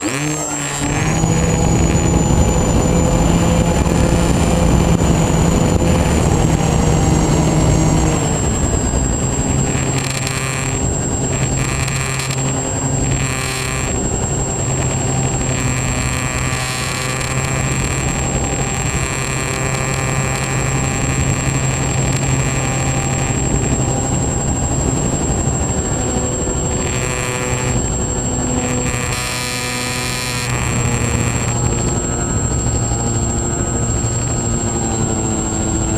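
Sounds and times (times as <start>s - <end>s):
electric motors and propellers: 0.0s - 35.9s
high whine: 0.0s - 35.9s
rushing air: 0.0s - 35.9s.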